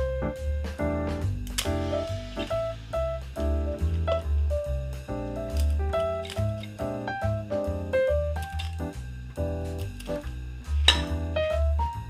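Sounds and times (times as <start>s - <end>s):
bass line: 0.0s - 12.0s
jazz piano: 0.0s - 12.0s.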